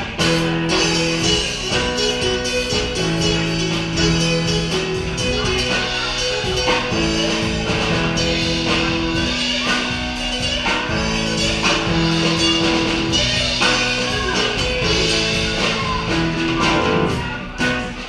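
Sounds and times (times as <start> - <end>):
drum kit beat: 0.0 - 18.0
keyboard chords: 0.0 - 18.0.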